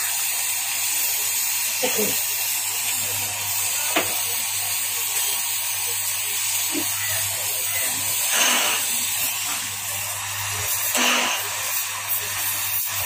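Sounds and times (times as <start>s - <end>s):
blowtorch hissing: 0.0s - 13.0s.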